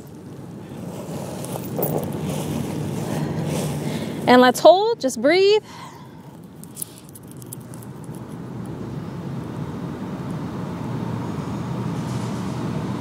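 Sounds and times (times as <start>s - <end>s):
vehicle approaching: 0.0s - 13.0s.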